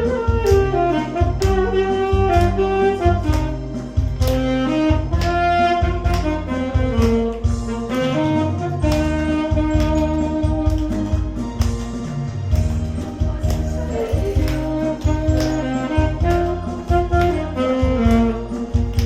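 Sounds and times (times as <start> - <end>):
saxophone playing slow melody: 0.0 - 11.4, 14.6 - 19.0
backing track with bass beat: 0.0 - 19.0.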